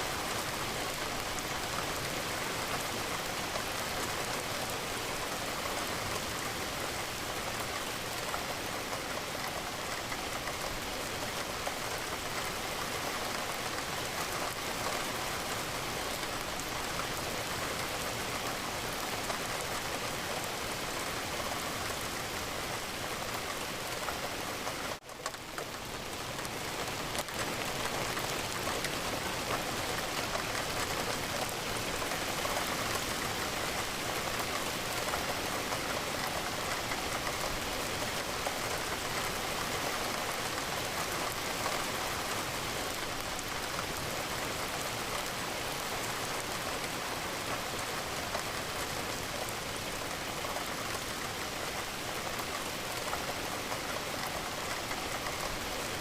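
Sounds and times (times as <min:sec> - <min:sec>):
rain against a window: 0:00.0 - 0:56.0.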